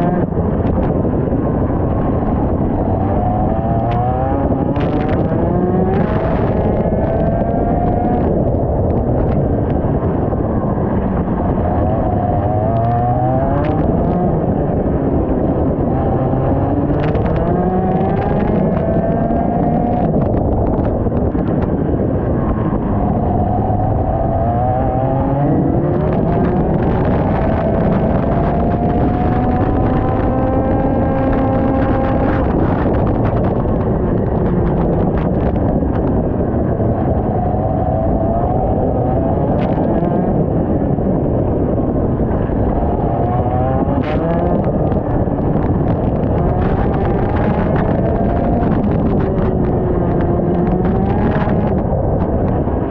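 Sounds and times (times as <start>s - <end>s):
microphone noise: 0.0s - 52.9s.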